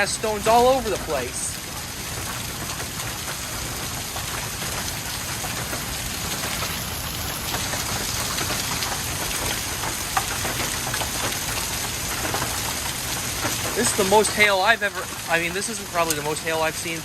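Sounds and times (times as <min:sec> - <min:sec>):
hailstones ticking on surfaces: 0:00.0 - 0:17.0
rain downpour hiss: 0:00.0 - 0:17.0.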